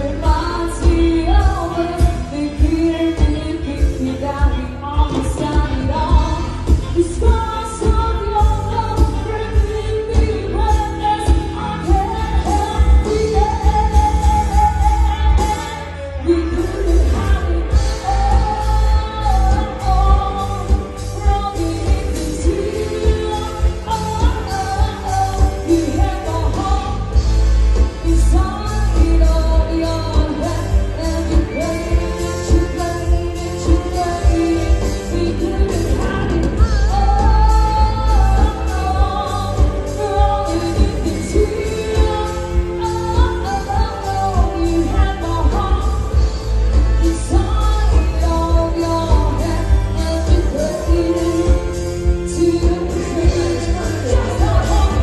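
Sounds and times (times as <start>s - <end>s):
band with strong bass beat: 0.0s - 55.0s
woman singing pop music: 0.0s - 55.0s.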